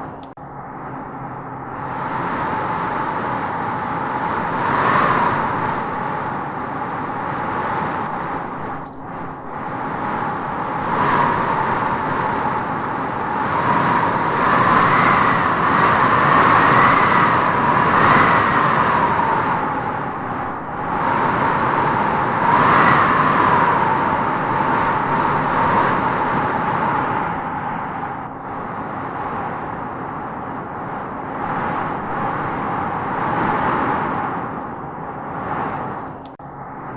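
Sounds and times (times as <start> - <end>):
wind howling: 0.0 - 36.9.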